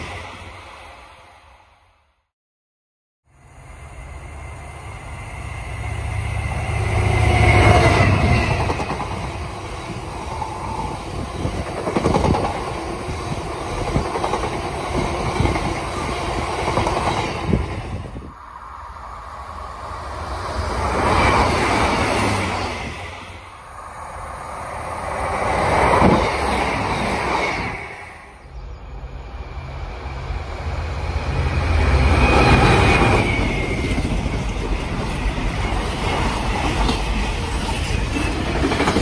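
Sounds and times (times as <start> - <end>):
passing diesel train: 0.0 - 2.2, 3.2 - 39.0
freight train rumble: 3.3 - 39.0.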